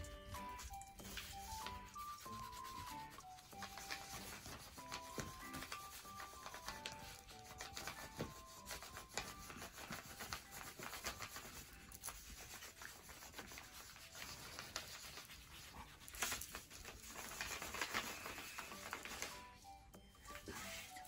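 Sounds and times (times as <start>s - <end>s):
paper sheets rustling: 0.5s - 21.0s.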